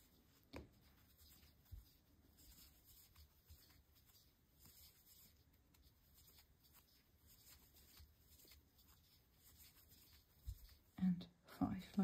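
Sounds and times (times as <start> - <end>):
yarn rustling with crochet hook: 0.0 - 11.2.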